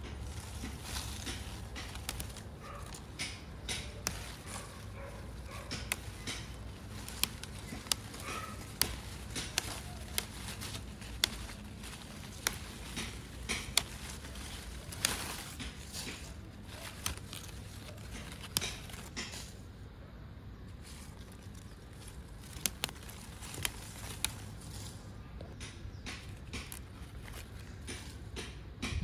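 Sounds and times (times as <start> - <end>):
sharp clicks and light knocks: 0.0 - 19.6, 20.8 - 29.0.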